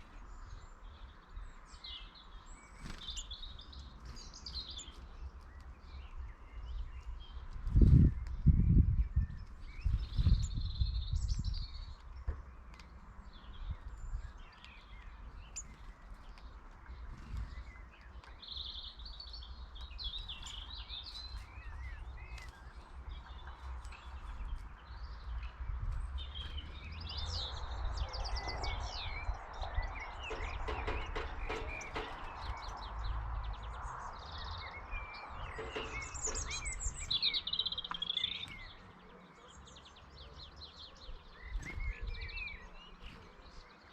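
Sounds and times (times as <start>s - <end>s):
small songbirds chirping: 0.0s - 43.9s.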